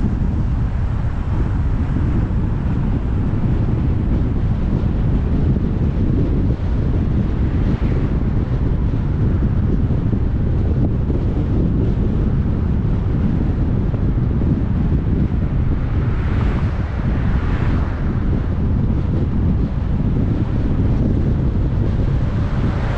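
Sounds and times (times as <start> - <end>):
car road and wind noise: 0.0 - 22.9.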